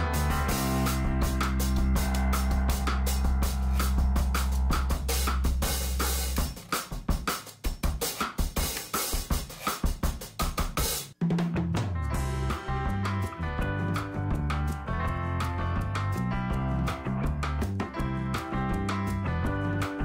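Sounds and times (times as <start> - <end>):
background music with drum beat: 0.0 - 20.0.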